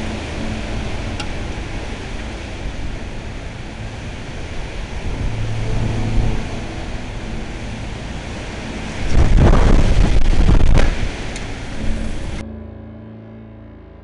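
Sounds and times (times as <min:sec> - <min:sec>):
vehicle engine hum: 0:00.0 - 0:12.4
wind on microphone: 0:00.0 - 0:12.4.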